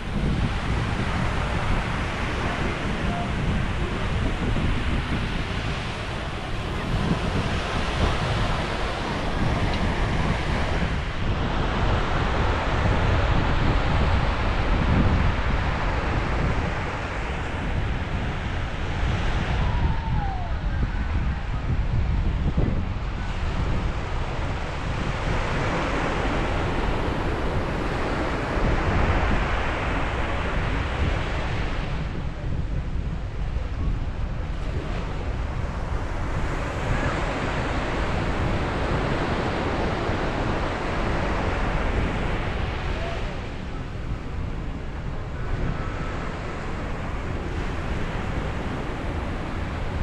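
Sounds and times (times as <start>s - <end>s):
ocean waves breaking on beach: 0.0s - 50.0s
wind buffeting microphone: 0.0s - 50.0s.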